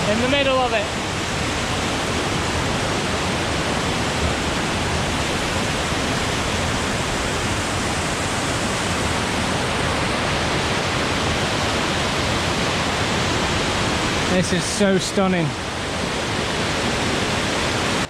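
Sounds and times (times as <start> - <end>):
waterfall roaring onto rocks: 0.0 - 18.0.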